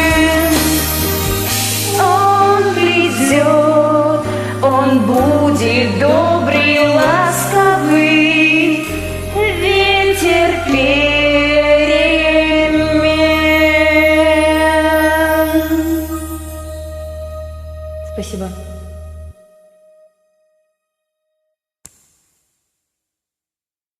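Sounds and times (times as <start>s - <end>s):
karaoke backing track: 0.0s - 19.3s.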